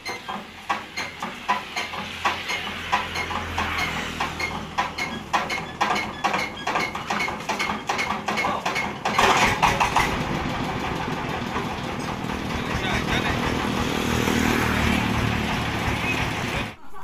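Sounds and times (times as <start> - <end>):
diesel engine running: 0.0 - 16.8.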